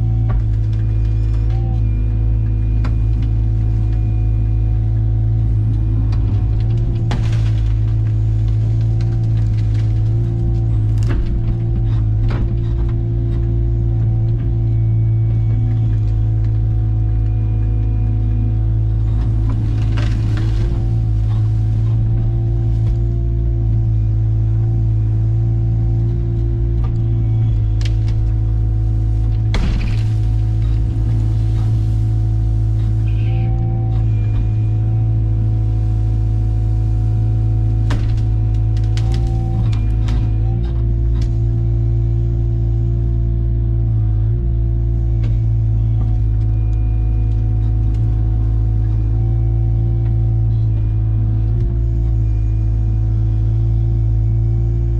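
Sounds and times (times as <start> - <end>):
diesel engine droning: 0.0 - 54.9.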